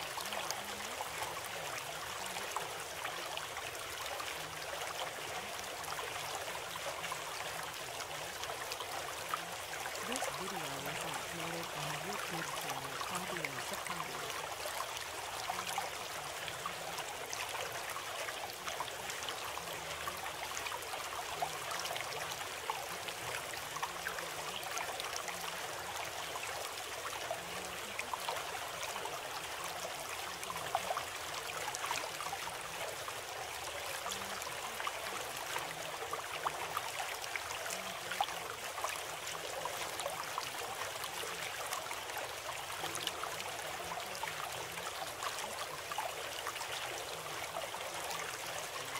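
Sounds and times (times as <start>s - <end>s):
stream water trickling: 0.0s - 48.9s.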